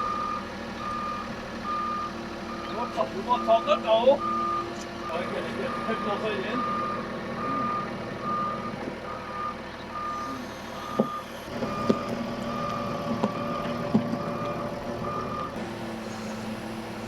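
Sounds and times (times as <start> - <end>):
vehicle reversing alarm beeping: 0.0 - 17.0.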